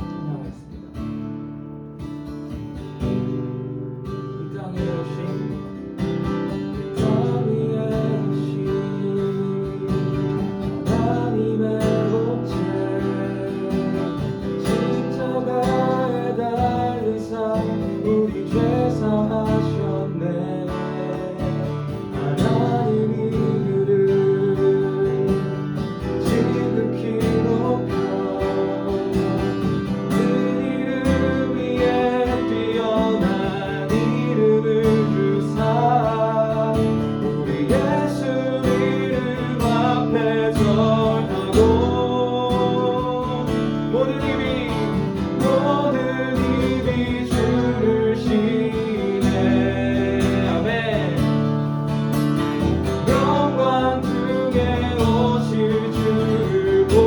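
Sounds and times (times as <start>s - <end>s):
strummed guitar: 0.0s - 57.0s
voices singing: 4.4s - 57.0s.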